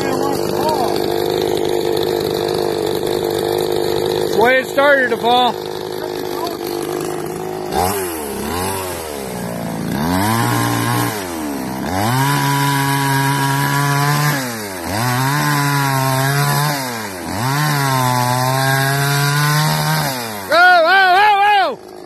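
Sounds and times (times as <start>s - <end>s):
chainsaw revving cutting wood: 0.0s - 22.0s.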